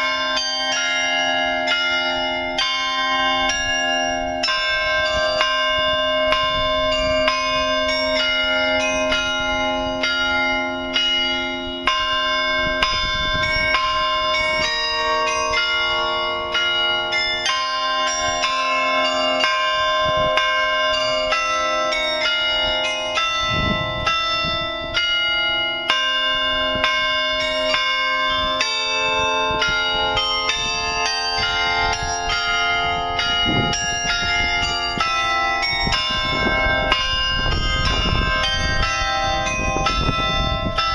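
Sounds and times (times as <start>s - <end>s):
carillon bells playing a tune: 0.0s - 40.9s.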